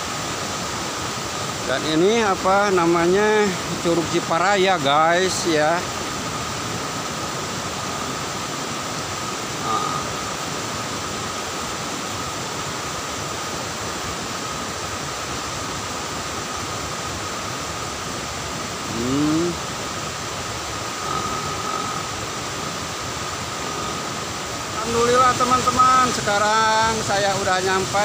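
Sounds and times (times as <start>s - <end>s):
forest stream and waterfall rushing: 0.0s - 28.0s.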